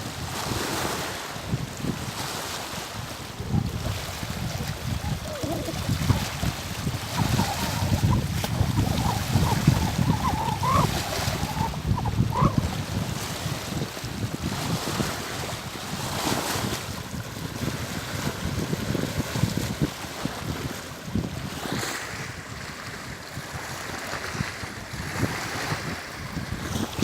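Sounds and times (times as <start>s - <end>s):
lake water lapping: 0.0s - 27.0s
wind gusting against microphone: 0.0s - 27.0s.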